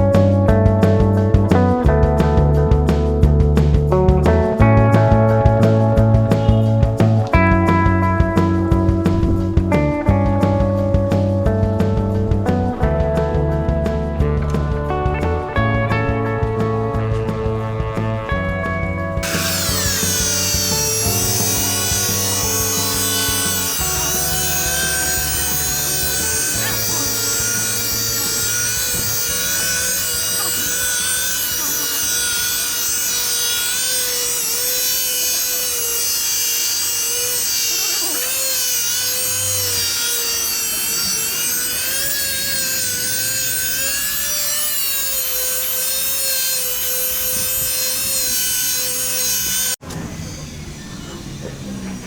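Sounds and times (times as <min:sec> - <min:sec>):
power tool whining: 0:00.0 - 0:52.0.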